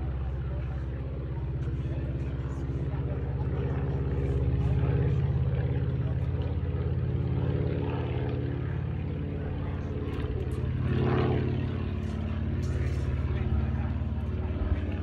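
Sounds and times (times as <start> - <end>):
biplane radial engine droning: 0.0 - 15.0.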